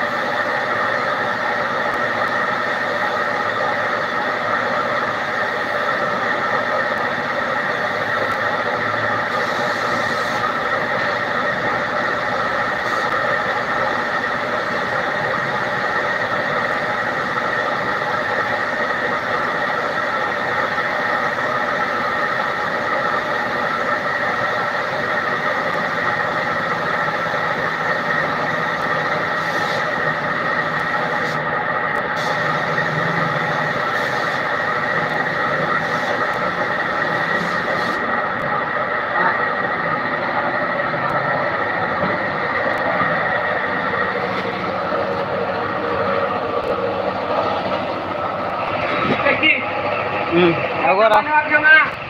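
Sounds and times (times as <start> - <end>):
air spray gun hissing: 0.0 - 39.3, 40.2 - 49.6.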